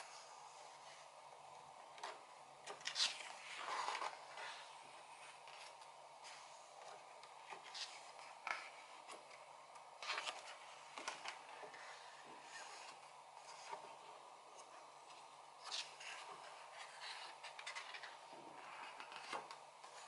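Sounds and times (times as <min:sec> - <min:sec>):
low steady hum: 0:00.0 - 0:20.0
paper pages rustling: 0:01.8 - 0:20.0.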